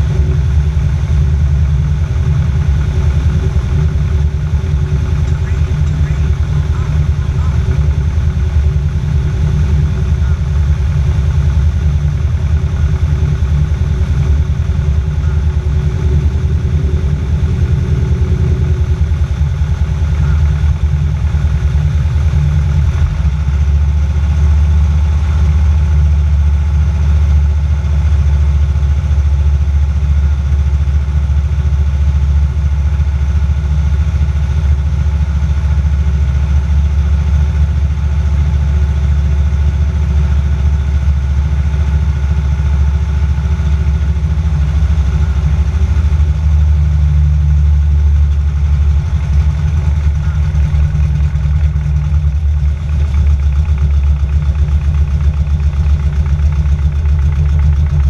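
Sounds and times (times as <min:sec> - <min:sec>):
plane engine droning: 0:00.0 - 0:28.8, 0:34.7 - 0:58.0.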